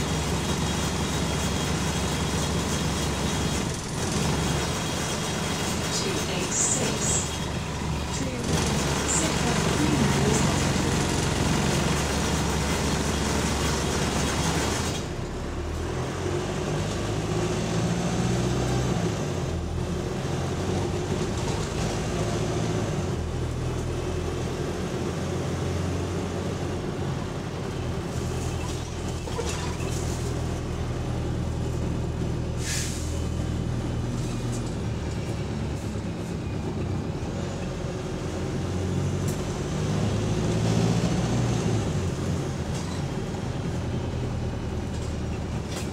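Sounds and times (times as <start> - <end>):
bus engine running: 0.0 - 45.9.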